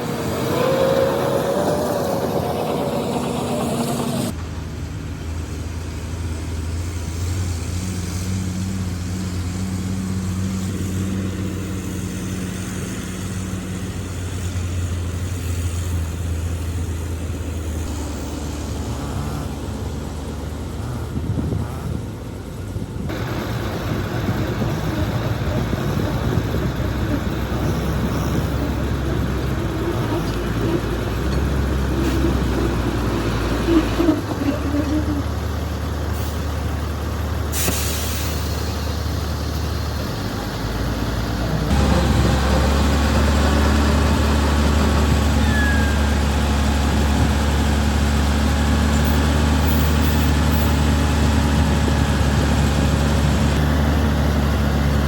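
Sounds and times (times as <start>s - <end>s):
earthmoving machine diesel engines: 0.0s - 55.0s.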